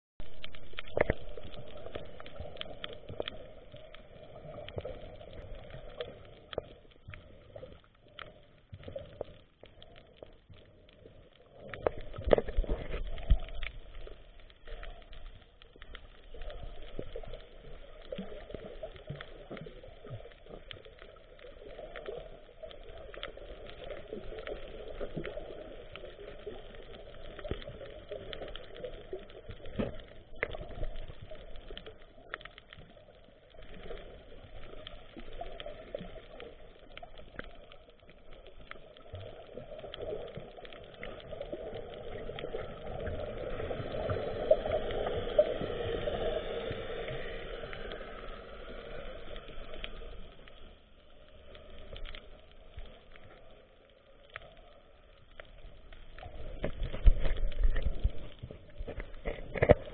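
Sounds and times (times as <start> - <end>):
faint clicks and crackles: 0.2 - 59.9
muffled underwater water movement: 0.2 - 59.9.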